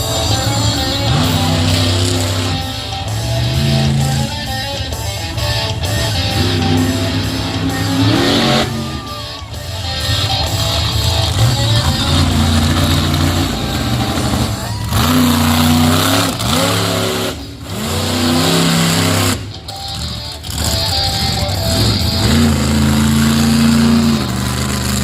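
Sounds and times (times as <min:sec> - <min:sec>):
loud rock music with electric guitar: 0:00.0 - 0:25.0
monster truck engine revving: 0:00.0 - 0:25.0.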